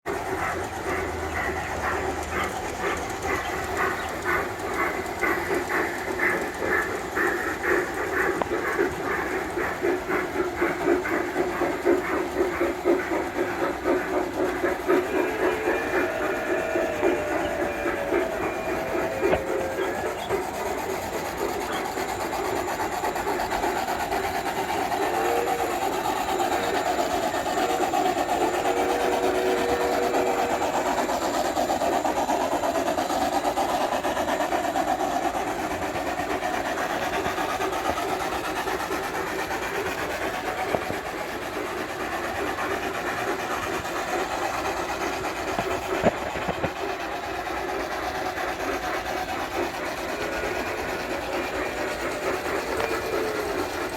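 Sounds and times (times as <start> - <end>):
model trains whirring and rattling: 0.0 - 53.9.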